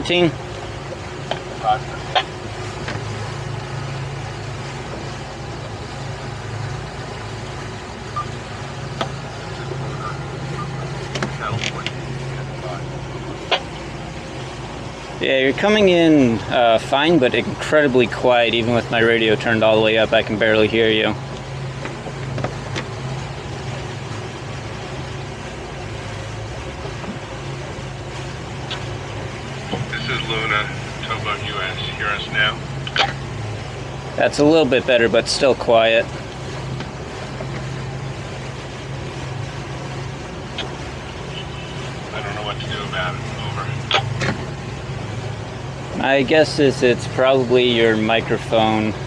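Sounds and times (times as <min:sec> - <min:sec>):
boat engine droning: 0:00.0 - 0:49.0
wind and water hiss: 0:00.0 - 0:49.0.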